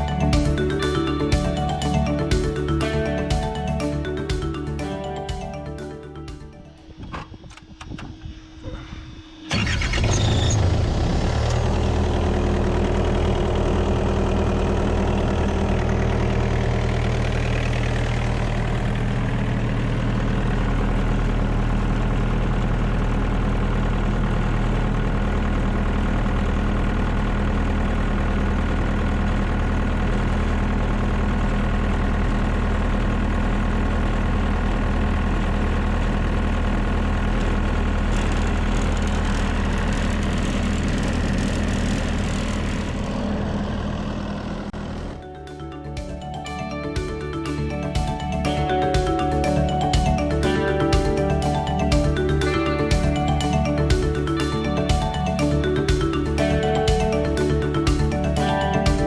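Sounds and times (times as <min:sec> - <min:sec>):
diesel engine starting and idling: 0:00.0 - 0:59.0.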